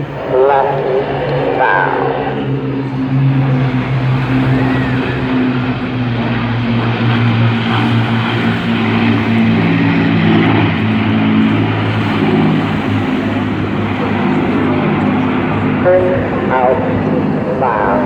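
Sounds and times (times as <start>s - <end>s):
propeller aircraft drone: 0.0s - 18.0s.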